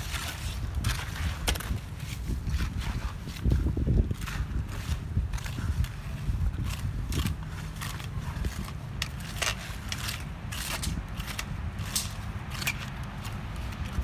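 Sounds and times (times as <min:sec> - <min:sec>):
hand tools scraping paving stone: 0:00.0 - 0:14.0.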